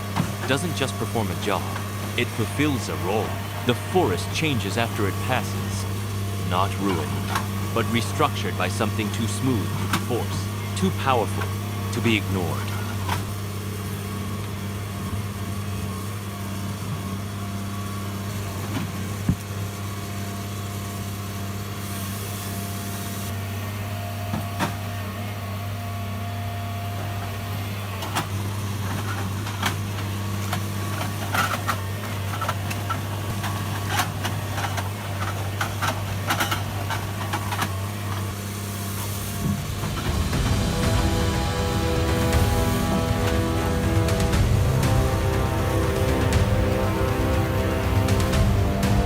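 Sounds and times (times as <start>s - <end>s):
diesel engine running: 0.0s - 23.8s, 27.0s - 49.0s.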